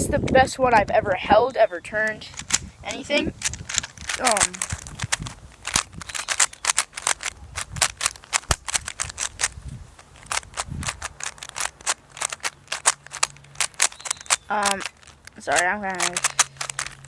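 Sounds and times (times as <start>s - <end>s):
plastic puzzle cube clacking: 2.2s - 17.0s.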